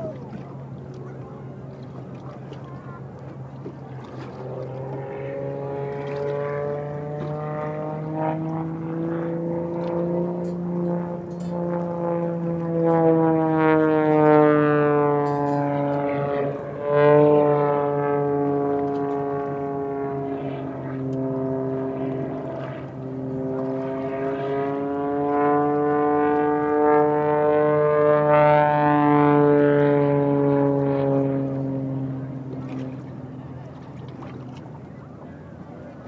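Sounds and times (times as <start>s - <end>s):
propeller airplane flying past: 0.0s - 36.0s
steady lower hum: 0.0s - 36.0s.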